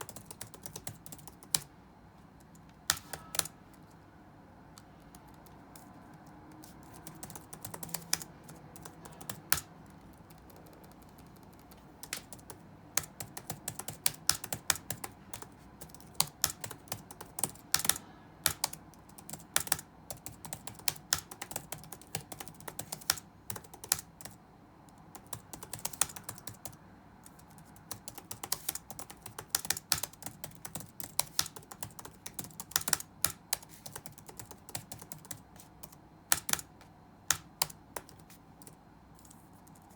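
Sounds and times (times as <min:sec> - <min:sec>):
computer keyboard typing: 0:00.0 - 0:01.7, 0:02.4 - 0:03.9, 0:04.8 - 0:39.9.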